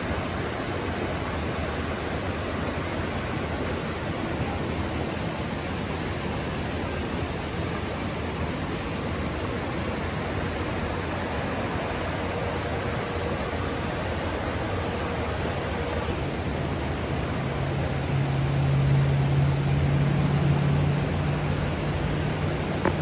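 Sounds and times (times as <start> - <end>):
whitewater rushing over rocks: 0.0 - 23.0.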